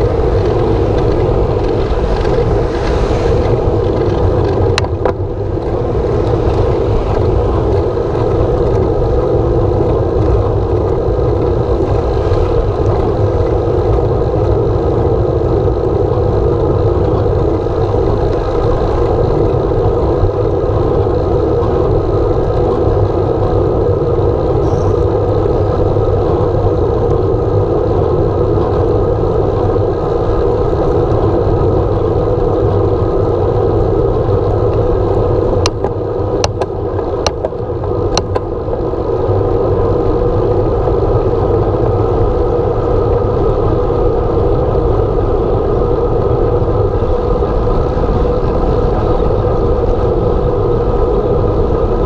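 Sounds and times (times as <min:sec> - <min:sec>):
bicycle tyre noise: 0:00.0 - 0:52.0
wind rush: 0:00.0 - 0:52.0.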